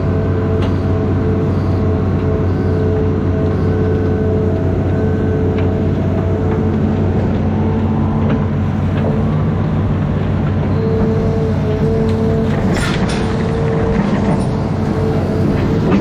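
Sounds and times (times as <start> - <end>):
diesel engine running under load: 0.0 - 16.0
hydraulic whine: 0.0 - 16.0.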